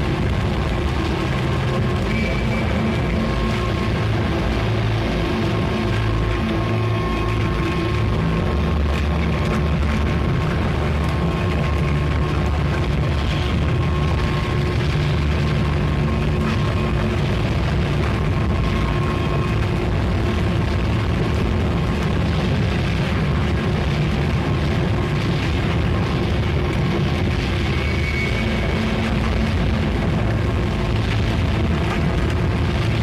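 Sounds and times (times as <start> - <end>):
dense noise music with low rumble: 0.0 - 33.0.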